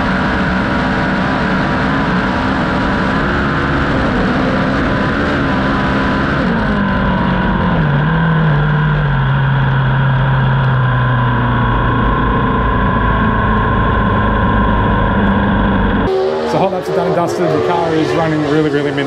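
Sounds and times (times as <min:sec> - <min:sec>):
race car engine running: 0:00.0 - 0:19.0
rush of noise: 0:00.0 - 0:19.0.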